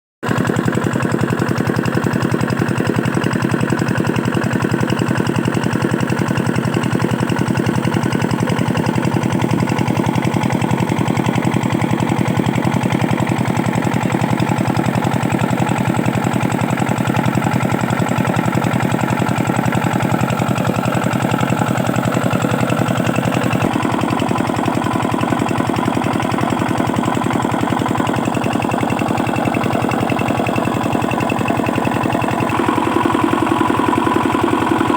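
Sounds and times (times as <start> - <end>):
diesel engine running: 5.8 - 34.9.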